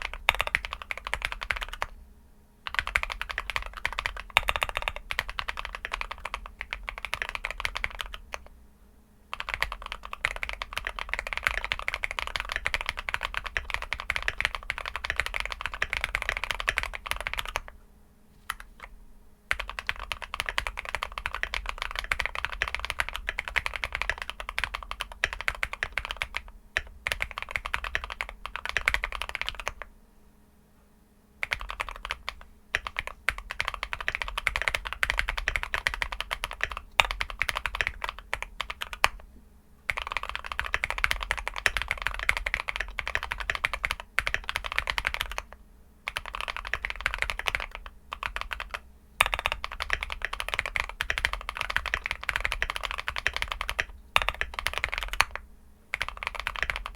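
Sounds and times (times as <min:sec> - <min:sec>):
fast mechanical keyboard typing: 0:00.0 - 0:02.0, 0:02.7 - 0:08.5, 0:09.3 - 0:17.7, 0:19.5 - 0:29.9, 0:31.4 - 0:39.2, 0:39.9 - 0:56.9.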